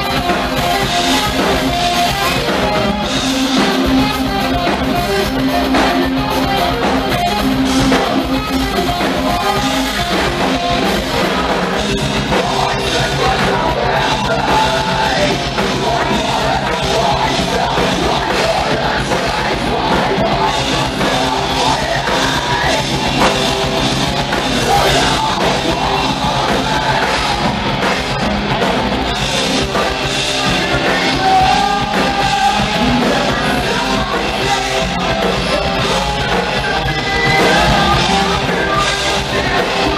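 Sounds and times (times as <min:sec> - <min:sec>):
drum kit: 0:00.0 - 0:39.9
electric guitars: 0:00.0 - 0:39.9
person singing and yelling: 0:00.0 - 0:39.9.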